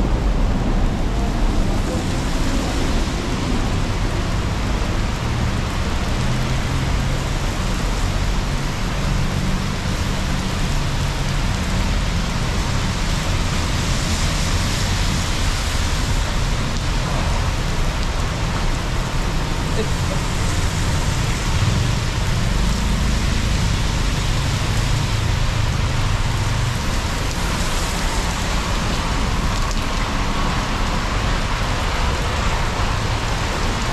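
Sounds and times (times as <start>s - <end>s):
heavy rain on pavement: 0.0s - 33.9s
road traffic rumble: 0.0s - 33.9s.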